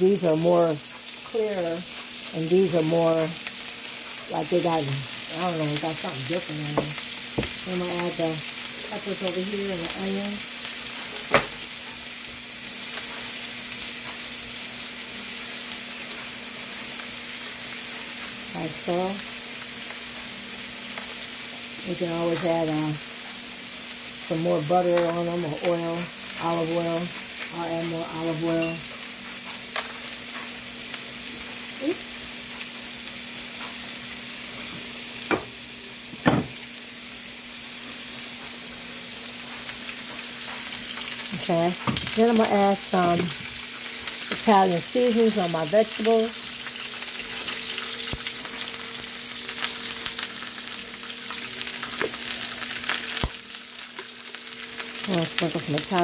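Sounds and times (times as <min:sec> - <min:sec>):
sausages sizzling on a grill: 0:00.0 - 0:56.0.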